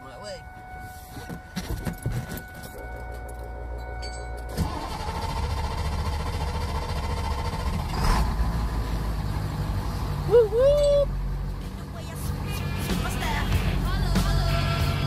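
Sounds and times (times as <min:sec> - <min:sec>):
truck engine starting and idling: 0:02.4 - 0:15.0.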